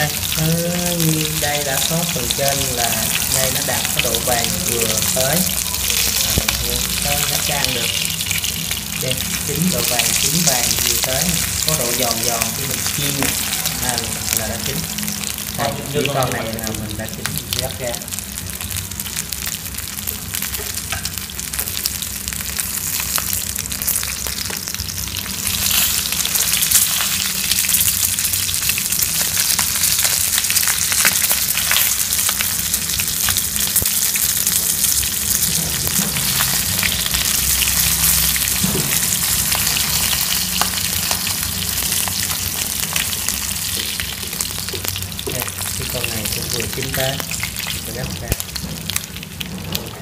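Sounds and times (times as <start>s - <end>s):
meat sizzling in hot oil: 0.0s - 50.0s.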